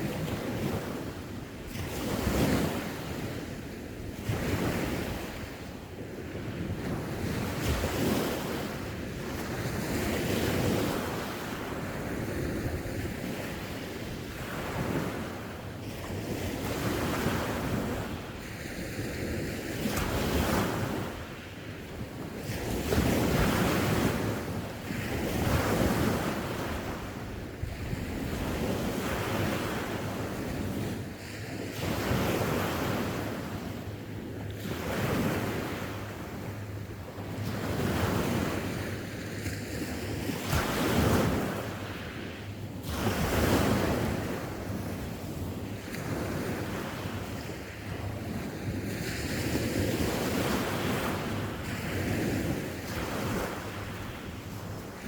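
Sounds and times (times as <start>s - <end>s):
sea waves breaking on shore: 0.0s - 55.0s
wind rumbling on microphone: 0.0s - 55.0s.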